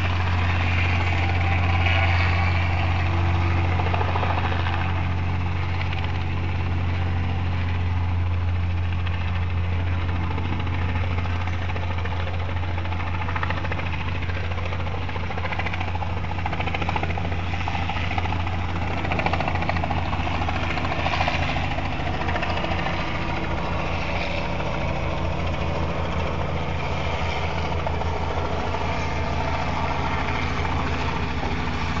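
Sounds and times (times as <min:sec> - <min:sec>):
aircraft engine drone: 0:00.0 - 0:32.0.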